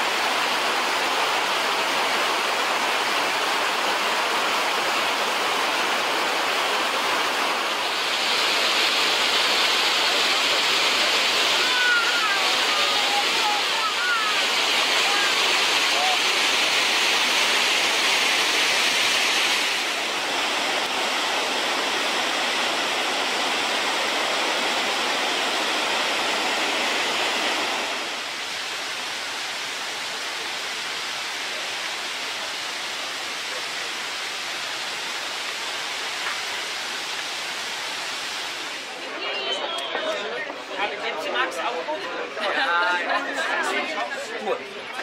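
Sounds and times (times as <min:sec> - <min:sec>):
waterfall crashing over rock: 0:00.0 - 0:39.3.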